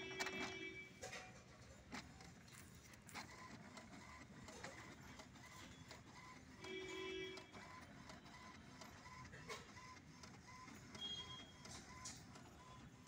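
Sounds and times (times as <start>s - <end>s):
printer mechanism ticking: 0.0s - 1.1s, 1.8s - 13.0s
printer whine: 0.0s - 13.0s.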